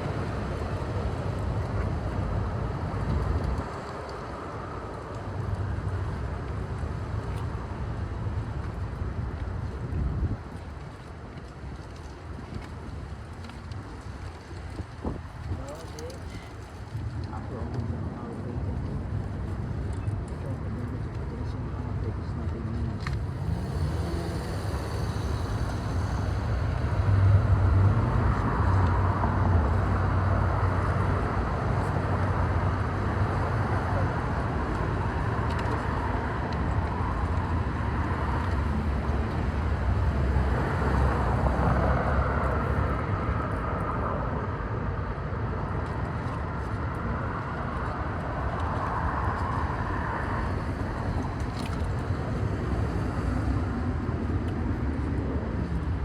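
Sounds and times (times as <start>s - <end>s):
road vehicle rumble: 0.0s - 56.0s.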